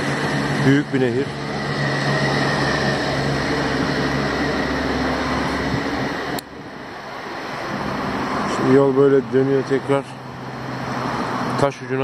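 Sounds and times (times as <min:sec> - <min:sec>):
road traffic noise: 0:00.0 - 0:12.0
vehicle engine humming: 0:00.0 - 0:12.0.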